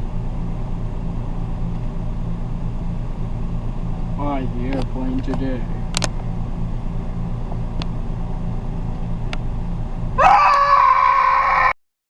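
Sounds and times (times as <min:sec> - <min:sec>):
vehicle engine rumbling: 0:00.0 - 0:10.4.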